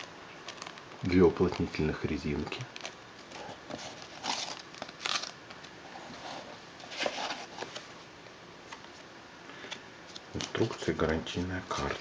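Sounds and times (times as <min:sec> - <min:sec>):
plastic bag and paper rustling: 0:00.0 - 0:08.0, 0:10.3 - 0:12.0.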